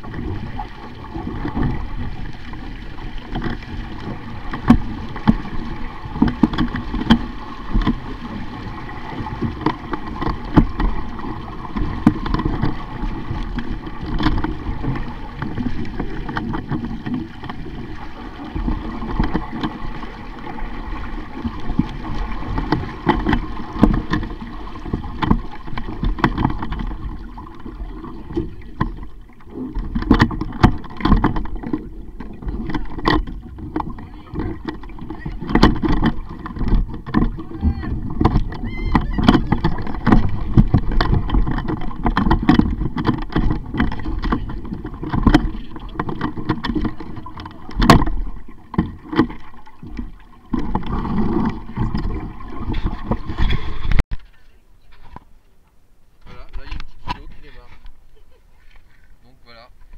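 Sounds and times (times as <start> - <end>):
water along boat hull: 0.0 - 59.9.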